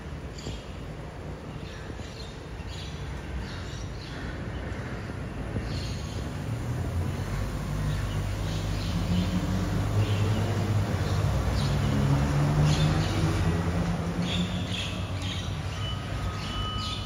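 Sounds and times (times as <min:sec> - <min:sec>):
birds chirping: 0:00.3 - 0:17.0.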